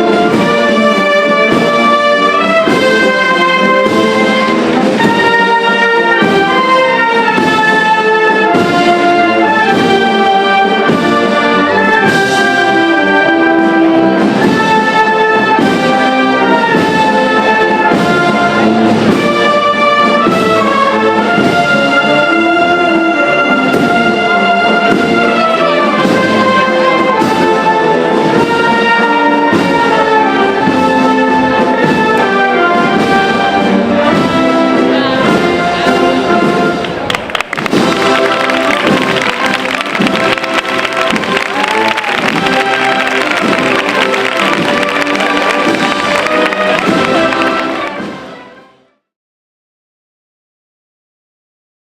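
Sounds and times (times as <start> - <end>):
brass band playing march: 0.0 - 49.1.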